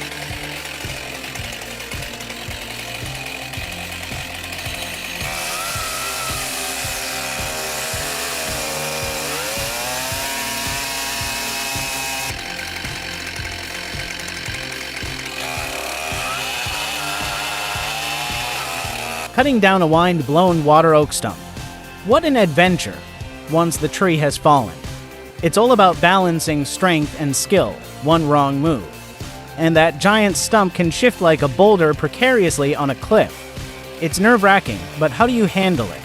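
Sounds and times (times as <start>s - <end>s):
background music with beat: 0.0s - 36.0s
chainsaw revving: 0.0s - 36.0s.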